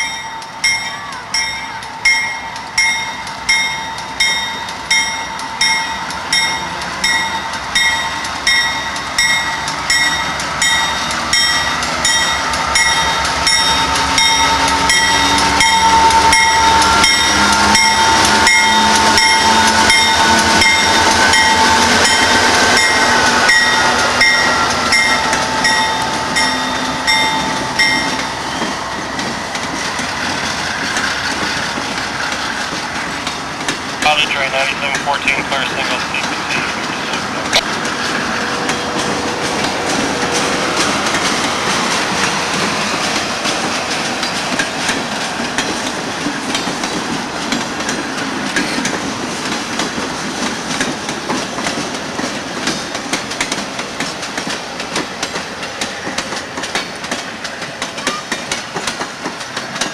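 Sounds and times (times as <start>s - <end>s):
wheels clickety-clack: 0.0s - 34.1s, 36.2s - 59.9s
train passing: 0.0s - 59.9s.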